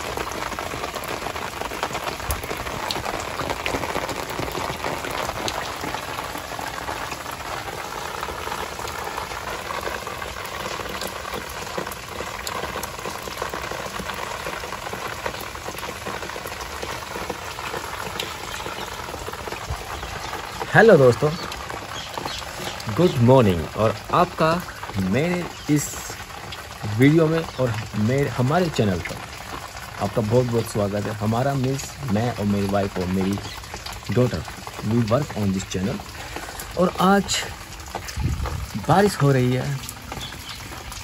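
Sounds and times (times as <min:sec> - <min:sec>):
steady rain on rooftops: 0:00.0 - 0:41.0.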